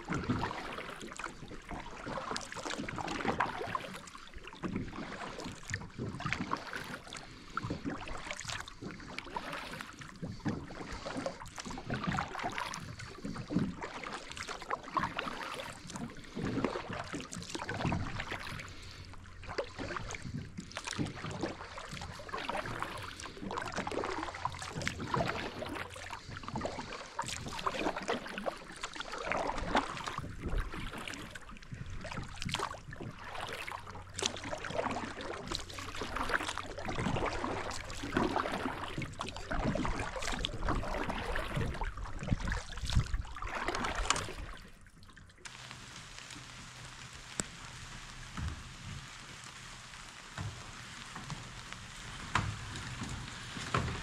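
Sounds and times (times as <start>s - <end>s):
kayak paddle splashing: 0.0s - 54.0s
moving water wash: 0.0s - 54.0s.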